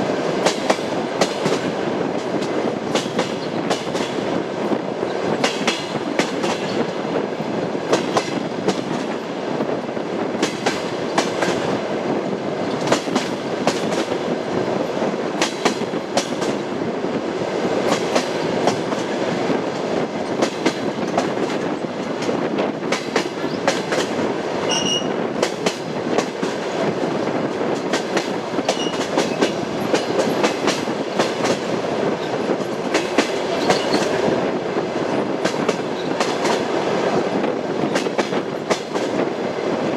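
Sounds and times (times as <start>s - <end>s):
train wheels clacking over rail joints: 0.0s - 4.3s, 5.0s - 7.0s, 7.9s - 9.3s, 10.3s - 11.7s, 12.7s - 14.3s, 15.4s - 16.6s, 17.8s - 34.4s, 35.1s - 39.3s.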